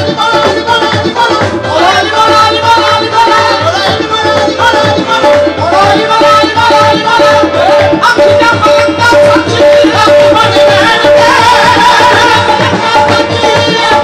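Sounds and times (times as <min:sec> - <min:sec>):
harmoniums: 0:00.0 - 0:14.0
keyboard and guitars: 0:00.0 - 0:14.0
singers: 0:00.0 - 0:14.0
tabla: 0:00.0 - 0:14.0.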